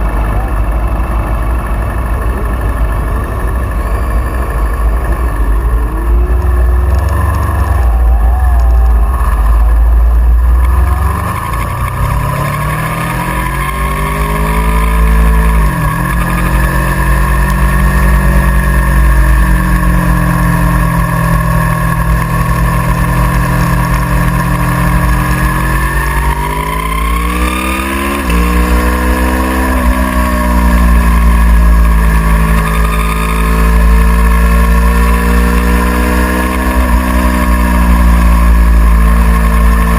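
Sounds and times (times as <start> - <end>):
heavy low rumble: 0.0 - 39.4
motorcycle engine accelerating: 0.0 - 39.9.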